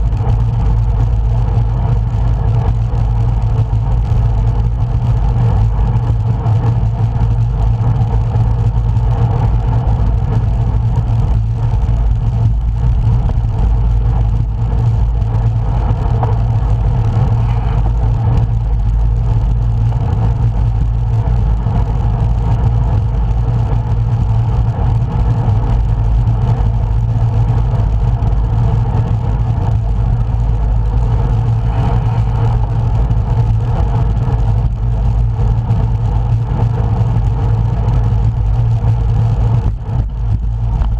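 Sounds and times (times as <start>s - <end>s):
road rumble: 0.0s - 40.9s
wind on microphone: 0.0s - 40.9s.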